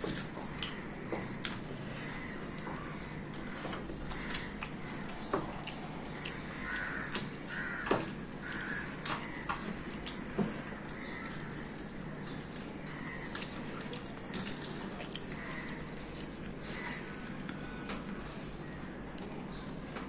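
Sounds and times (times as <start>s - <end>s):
fingers squelching sticky rice: 0.0s - 19.9s.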